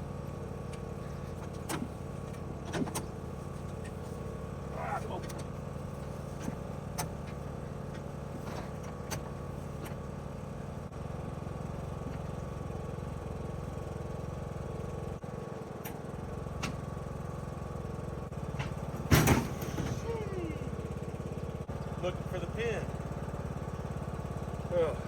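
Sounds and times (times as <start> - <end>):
riding lawnmower engine running: 0.0 - 25.0.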